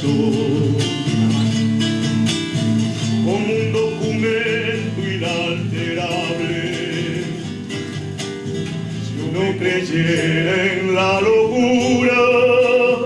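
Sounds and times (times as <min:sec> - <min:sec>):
classical guitar playing: 0:00.0 - 0:13.0.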